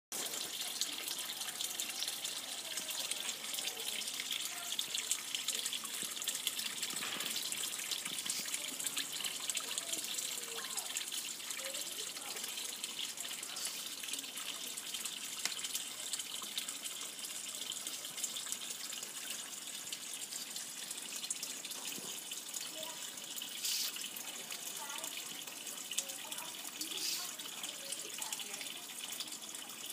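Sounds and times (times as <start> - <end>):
water splashing into pond: 0.1 - 29.9.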